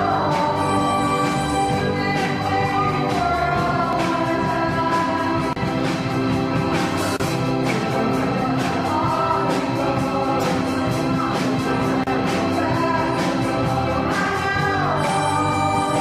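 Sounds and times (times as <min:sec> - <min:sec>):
person singing: 0:00.0 - 0:05.9, 0:07.3 - 0:16.0
live band playing: 0:00.0 - 0:16.0
steady drum beat: 0:00.0 - 0:16.0.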